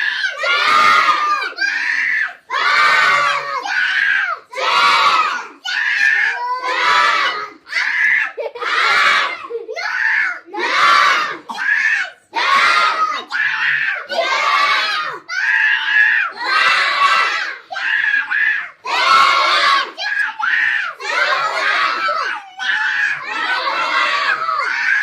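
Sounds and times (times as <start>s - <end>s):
crowd shouting: 0.0s - 25.0s.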